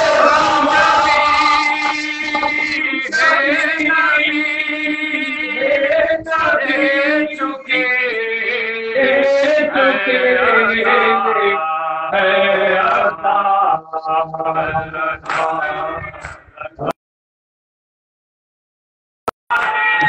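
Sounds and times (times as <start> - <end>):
men chanting in unison: 0.0 - 16.9.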